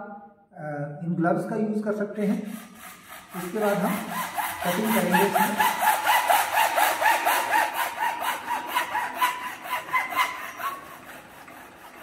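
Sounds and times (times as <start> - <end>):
hacksaw cutting plastic pipe: 2.3 - 12.0.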